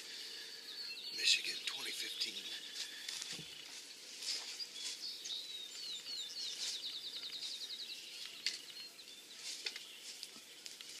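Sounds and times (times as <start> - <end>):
songbird singing a trill: 0.0 - 10.8.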